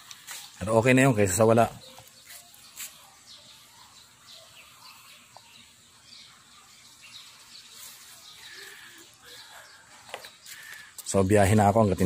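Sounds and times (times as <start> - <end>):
faint bird chirps: 0.0 - 11.0
quiet outdoor background noise: 0.0 - 12.0.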